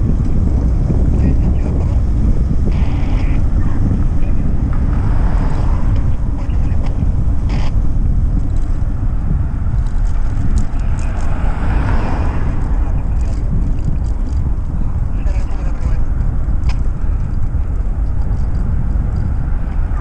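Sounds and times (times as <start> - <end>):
car passing: 0.0 - 20.0
wind buffeting microphone: 0.0 - 20.0.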